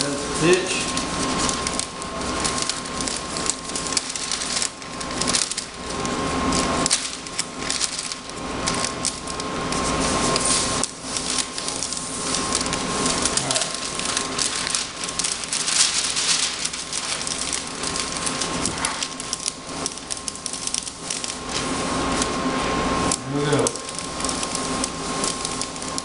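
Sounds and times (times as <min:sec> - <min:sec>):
plastic film crinkling and rustling: 0:00.0 - 0:26.0.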